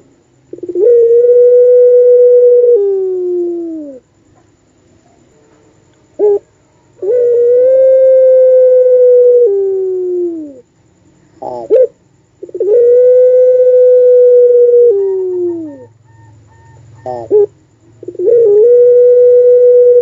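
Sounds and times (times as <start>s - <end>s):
turtle dove cooing: 0.5s - 4.1s, 6.2s - 10.7s, 11.3s - 20.0s.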